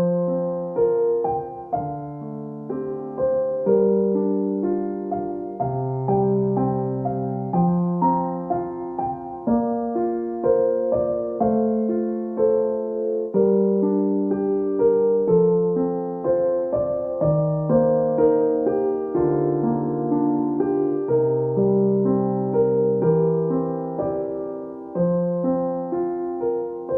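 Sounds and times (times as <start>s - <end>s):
gentle piano melody: 0.0s - 26.9s.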